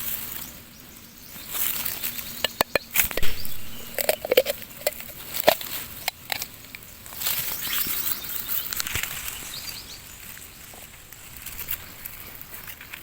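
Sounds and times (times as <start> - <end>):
dry rustling and crackling: 0.0 - 13.0.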